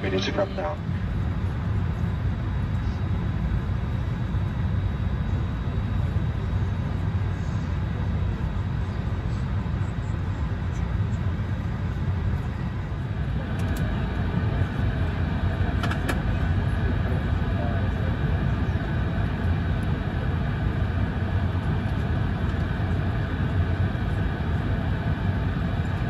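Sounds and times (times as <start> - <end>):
aircraft cabin air conditioning: 0.0 - 26.0.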